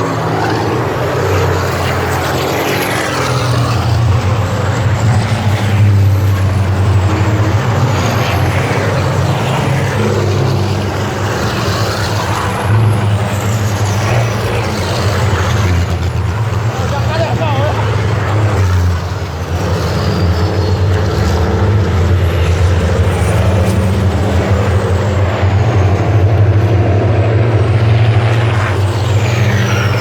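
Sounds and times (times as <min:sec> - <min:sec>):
racing truck diesel engines droning: 0:00.0 - 0:30.0
trucks passing with whines: 0:00.0 - 0:30.0.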